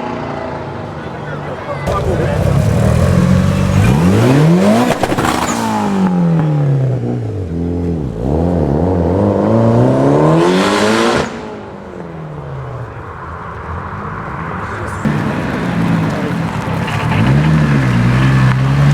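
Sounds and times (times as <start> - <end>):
tuned car engine revving: 0.0 - 18.9.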